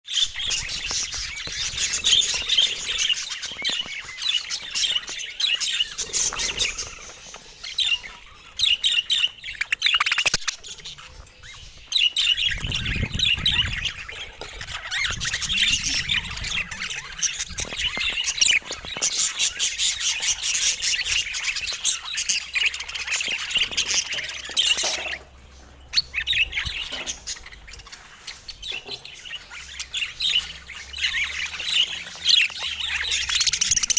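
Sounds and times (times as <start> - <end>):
budgerigars chattering: 0.1 - 33.9.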